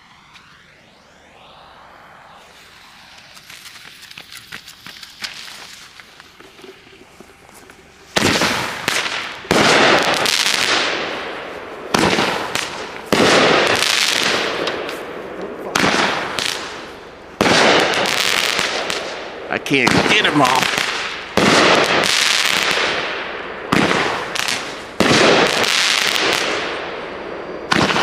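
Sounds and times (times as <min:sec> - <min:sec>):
firework shots with crackle: 0:02.4 - 0:27.0, 0:27.7 - 0:28.0.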